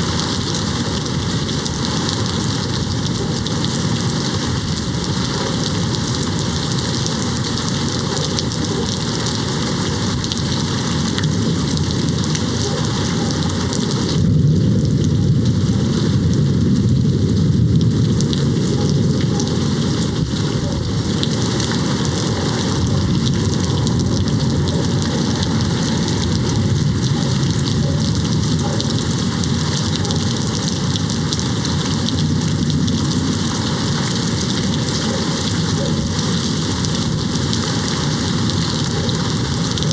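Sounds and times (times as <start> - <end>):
distant thunder rumble: 0.0 - 39.9
heavy rain on a window: 0.0 - 39.9.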